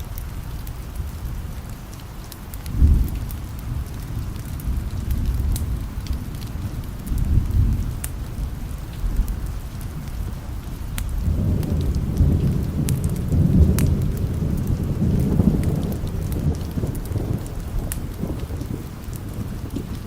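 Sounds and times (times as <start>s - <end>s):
steady rain: 0.0s - 20.0s
thunder rumbling: 2.6s - 20.0s.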